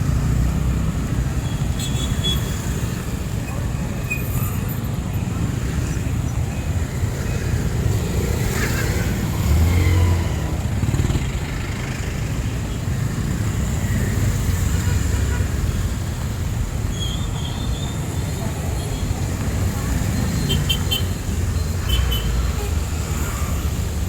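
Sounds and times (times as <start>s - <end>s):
cars and motorcycles passing: 0.0s - 24.0s.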